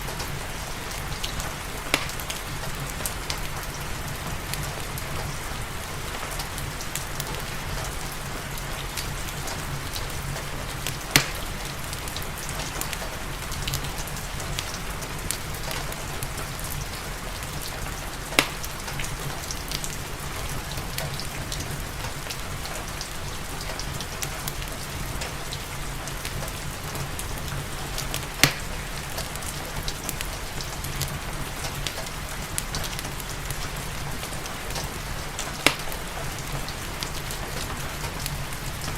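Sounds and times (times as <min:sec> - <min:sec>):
fireplace crackling: 0:00.0 - 0:38.9
steady rain: 0:00.0 - 0:38.9.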